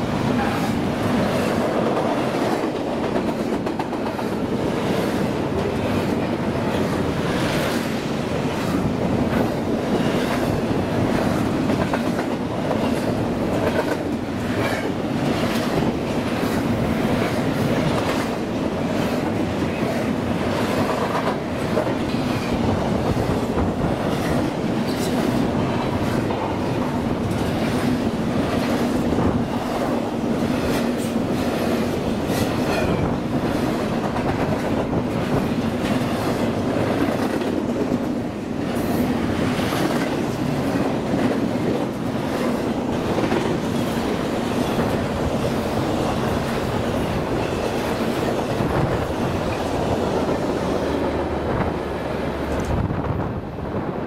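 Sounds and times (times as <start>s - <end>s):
train rumble: 0.0s - 54.0s
train wheels clicking over rail joints: 0.1s - 52.9s.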